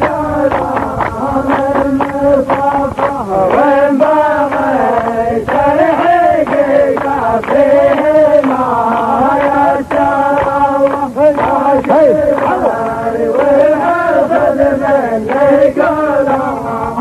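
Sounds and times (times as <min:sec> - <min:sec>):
sharp regular beats: 0:00.0 - 0:14.5
men chanting wavering melody: 0:00.0 - 0:17.0.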